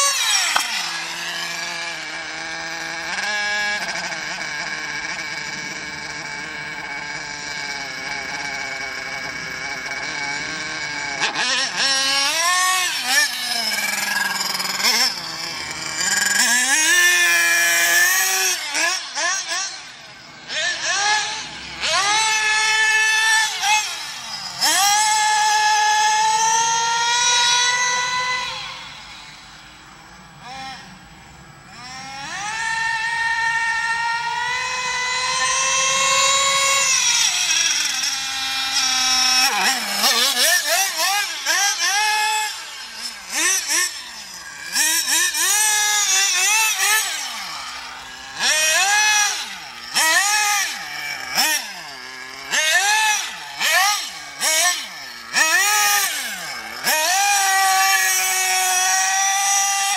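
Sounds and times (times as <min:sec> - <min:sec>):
small nitro engine revving: 0:00.0 - 0:59.9.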